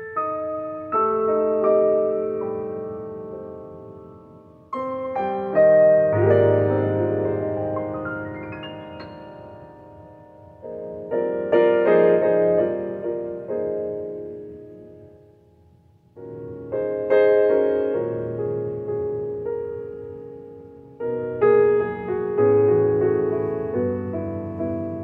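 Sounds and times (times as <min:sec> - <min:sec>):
piano playing slow chords: 0:00.0 - 0:25.0.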